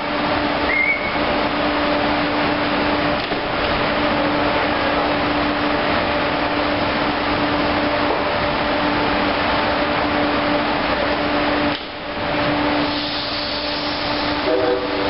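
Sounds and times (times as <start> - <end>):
train ventilation hum: 0.0 - 15.0.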